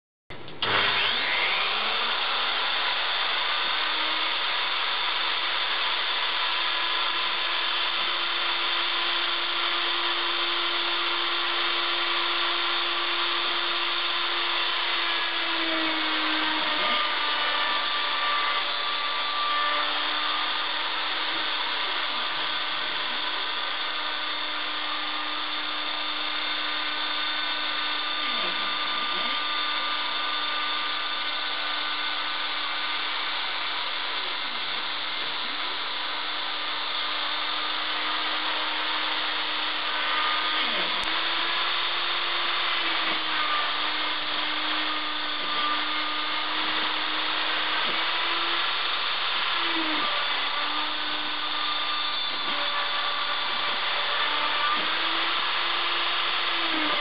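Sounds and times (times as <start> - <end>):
router motor whining: 0.3 - 57.0.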